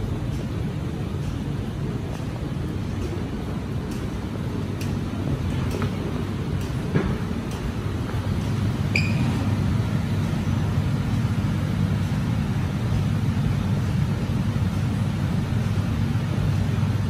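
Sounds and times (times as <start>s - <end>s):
station machinery rumble: 0.0s - 17.0s.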